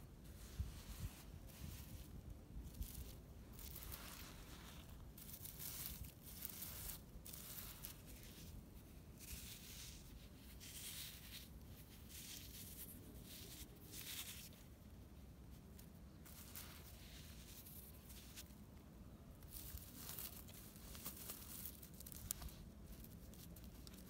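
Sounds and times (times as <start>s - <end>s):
fingers scraping dry soil: 0.2s - 14.7s, 15.5s - 18.6s, 19.4s - 24.0s.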